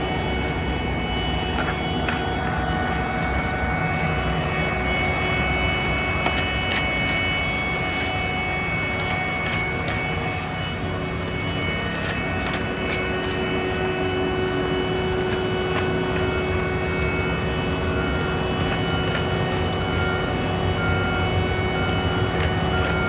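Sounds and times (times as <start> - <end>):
diesel machinery engine hum: 0.0 - 23.0.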